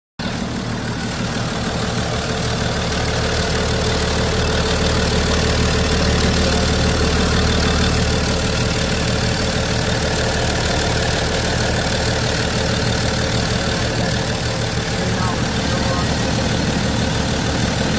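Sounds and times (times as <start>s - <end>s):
diesel engine idling: 0.2s - 17.9s.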